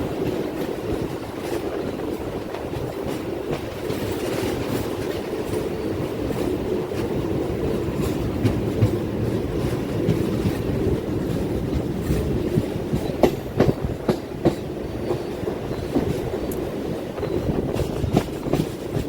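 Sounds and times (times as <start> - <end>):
train rumbling: 0.0 - 19.0
wheels clacking over rail joints: 0.0 - 19.0.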